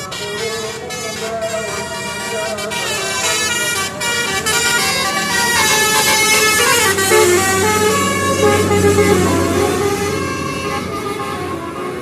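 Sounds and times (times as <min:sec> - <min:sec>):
bus musical horn melody: 0:00.0 - 0:12.0.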